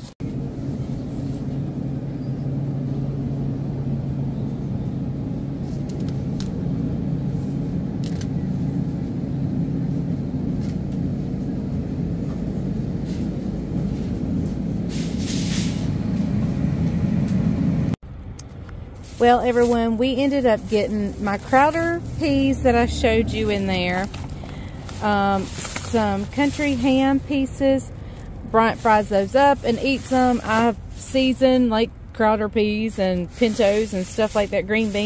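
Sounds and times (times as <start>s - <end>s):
refrigerated display case humming: 0.0s - 35.0s.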